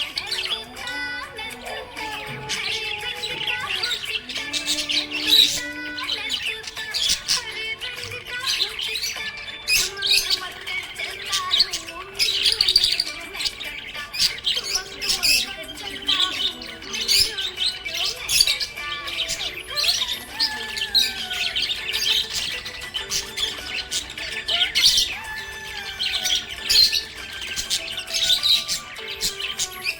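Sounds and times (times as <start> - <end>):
budgies chirping and chattering: 0.0 - 29.9.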